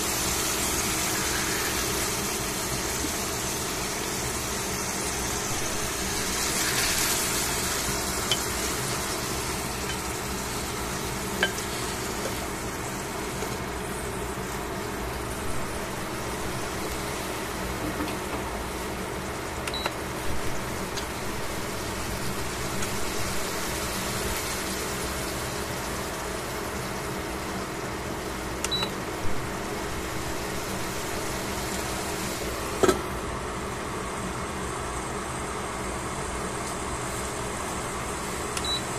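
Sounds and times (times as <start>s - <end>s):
meat sizzling in frying pan: 0.0s - 32.9s.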